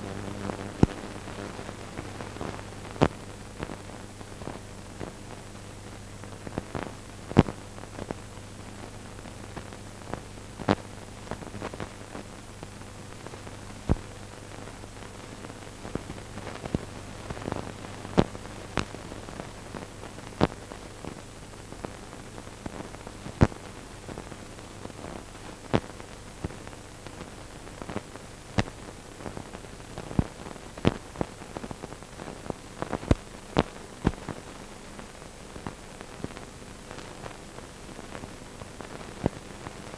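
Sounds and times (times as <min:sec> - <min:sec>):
crackles and pops: 0:00.0 - 0:39.9
film soundtrack hiss: 0:00.0 - 0:39.9.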